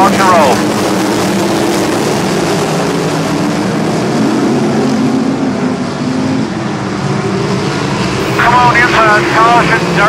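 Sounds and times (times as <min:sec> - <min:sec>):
race car engines droning: 0:00.0 - 0:10.0.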